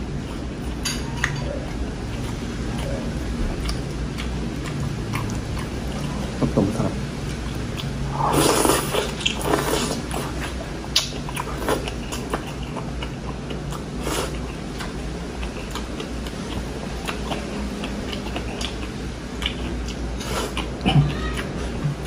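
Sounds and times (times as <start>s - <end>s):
person chewing: 0.0s - 21.9s
steady low hum: 0.0s - 22.0s.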